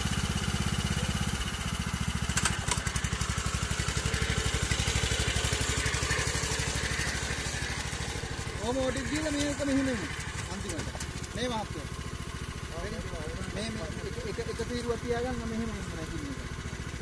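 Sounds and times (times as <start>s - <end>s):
small engine chugging: 0.0s - 17.0s.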